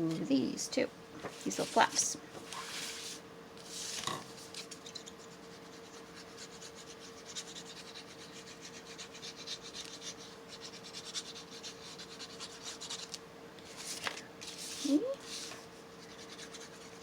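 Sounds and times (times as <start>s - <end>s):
faint steady hum: 0.0s - 17.0s
rubbing strokes on paper: 1.3s - 13.1s, 13.7s - 17.0s.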